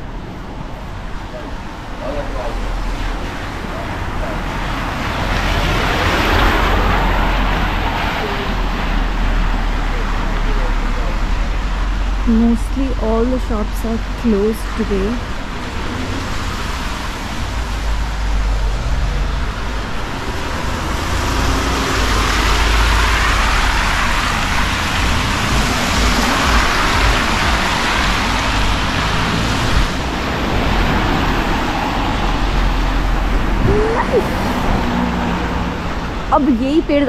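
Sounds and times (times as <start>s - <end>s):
low engine rumble: 0.0s - 37.0s
tyres hissing on wet road: 0.1s - 37.0s.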